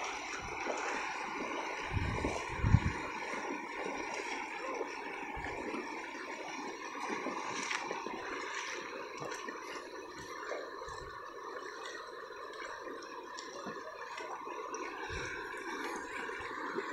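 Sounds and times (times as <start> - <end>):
shallow river water flowing: 0.0 - 16.9.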